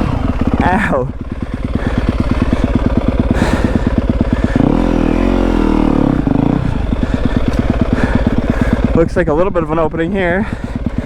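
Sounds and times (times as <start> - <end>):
motorcycle engine putting and revving: 0.0 - 11.0.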